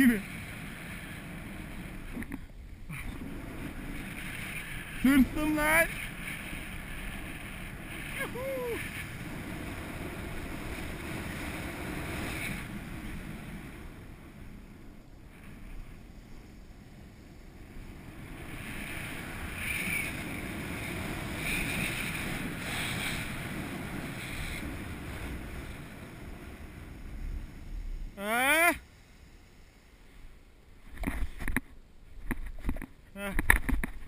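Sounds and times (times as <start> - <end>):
skis sliding through powder snow: 0.0 - 2.2, 2.9 - 30.2
wind on microphone: 0.0 - 28.2.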